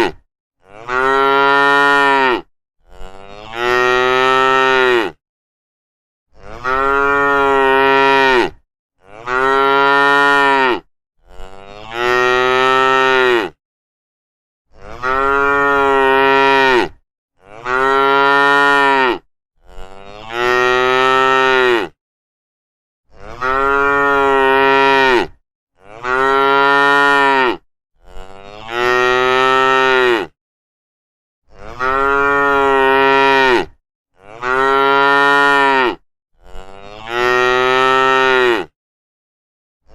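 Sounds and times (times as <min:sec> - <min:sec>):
cow mooing: 0:00.0 - 0:05.2, 0:06.4 - 0:13.6, 0:14.7 - 0:22.0, 0:23.2 - 0:30.4, 0:31.5 - 0:38.7.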